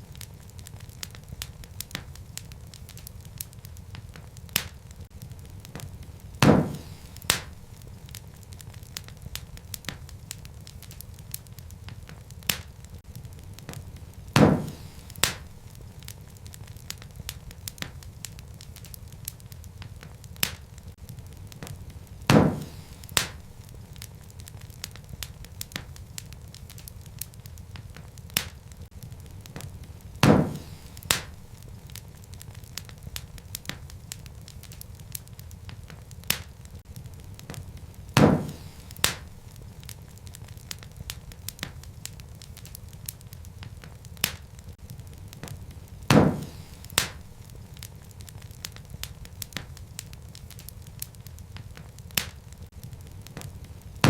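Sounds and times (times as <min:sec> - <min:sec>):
loud pops from fire: 0:00.0 - 0:54.0
wood fire crackling: 0:00.0 - 0:54.0.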